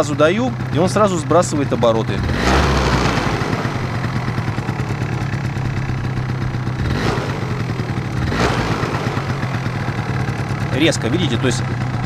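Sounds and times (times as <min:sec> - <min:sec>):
scooter engine idling and revving: 0:00.0 - 0:12.0.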